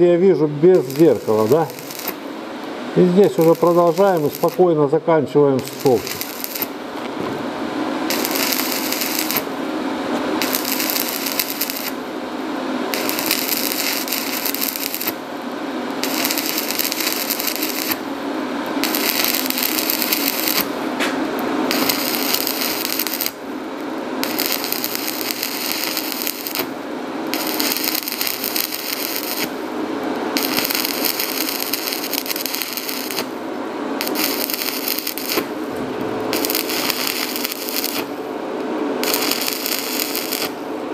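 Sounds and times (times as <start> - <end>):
welding arc crackle and sizzle: 0.0 - 40.9.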